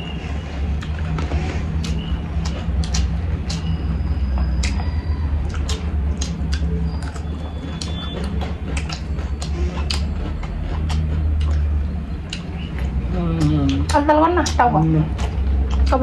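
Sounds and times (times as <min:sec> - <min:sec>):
steady low hum: 0:00.0 - 0:16.0
wet chewing: 0:00.0 - 0:16.0
lip-smacks and mouth clicks: 0:00.1 - 0:16.0.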